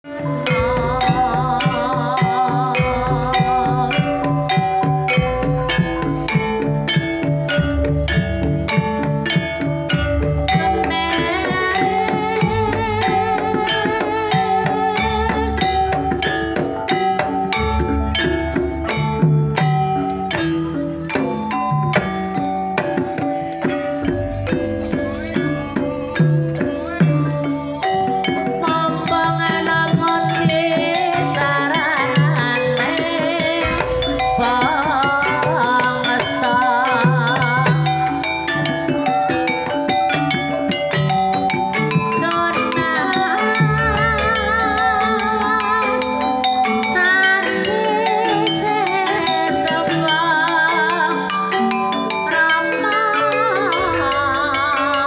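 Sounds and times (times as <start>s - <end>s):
hand drum strokes: 0.0s - 46.0s
gamelan music: 0.0s - 55.0s
metal mallet instruments melody: 0.0s - 55.0s
wavering melodic line with vibrato: 0.0s - 55.0s.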